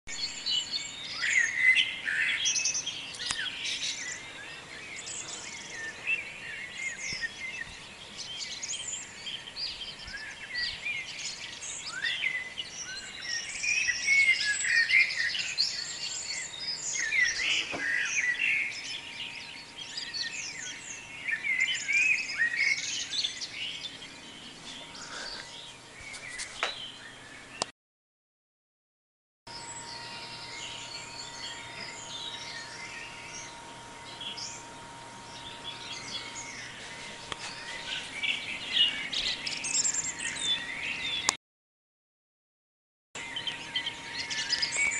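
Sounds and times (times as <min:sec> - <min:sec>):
many birds singing: 0:00.1 - 0:27.7, 0:29.5 - 0:41.4, 0:43.2 - 0:44.9.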